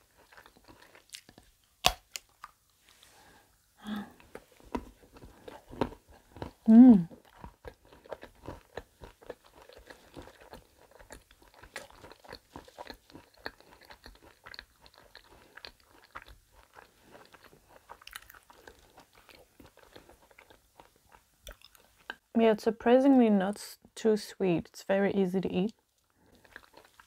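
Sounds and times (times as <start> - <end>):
chocolate crunching while chewing: 0.0 - 2.7, 4.1 - 22.2, 26.0 - 27.0.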